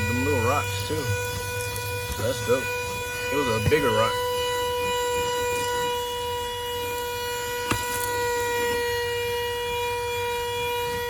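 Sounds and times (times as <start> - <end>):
handheld vacuum motor whine: 0.0 - 11.0.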